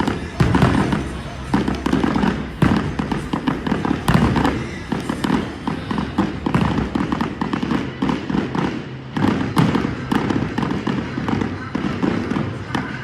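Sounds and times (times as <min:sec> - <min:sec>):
low fireworks booms: 0:00.0 - 0:12.8
fireworks bangs and crackles: 0:00.0 - 0:13.0.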